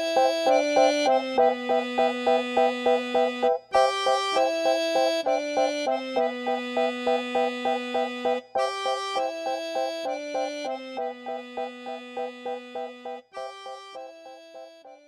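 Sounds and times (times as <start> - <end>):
instrumental music with pulsing chords: 0.0 - 15.0.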